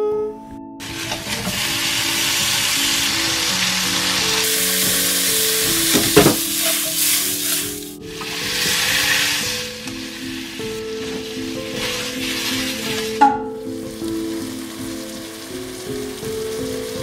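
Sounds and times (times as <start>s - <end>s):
meat sizzling in a wok: 0.8s - 17.0s.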